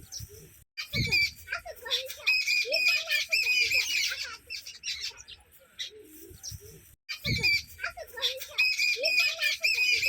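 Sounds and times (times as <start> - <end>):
sparrows chirping: 0.0 - 10.0.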